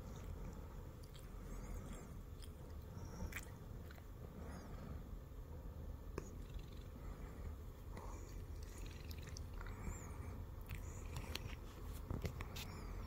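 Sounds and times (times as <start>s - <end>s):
cat purring: 0.0s - 11.8s.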